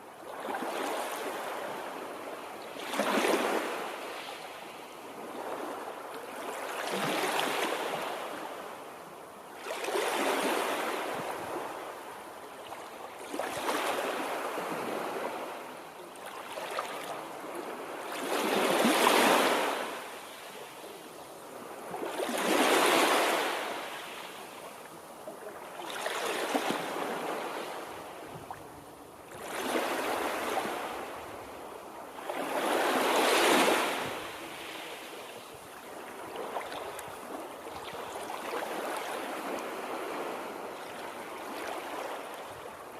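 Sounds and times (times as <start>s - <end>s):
small waves breaking: 0.2s - 42.9s.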